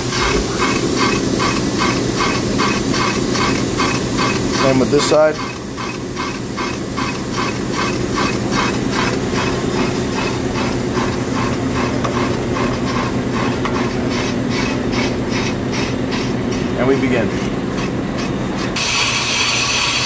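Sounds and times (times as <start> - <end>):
motor hum: 0.0 - 20.0.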